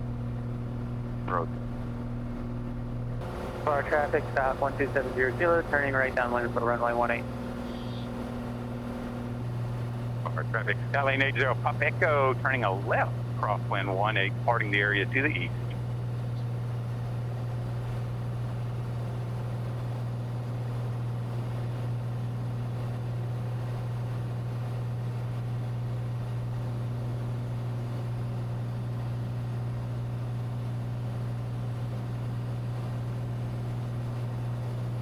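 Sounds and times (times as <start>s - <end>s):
airplane engine drone: 0.0s - 35.0s.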